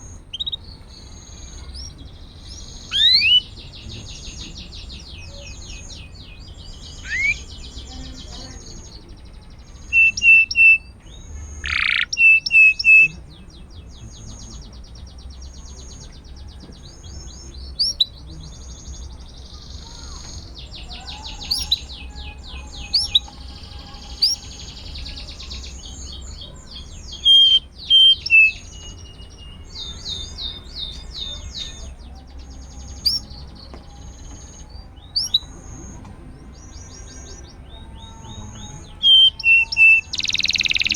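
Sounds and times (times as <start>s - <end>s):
sharp repeated bird notes: 0.0s - 8.4s, 9.8s - 16.2s, 17.4s - 40.9s
canary singing trills: 0.0s - 40.9s.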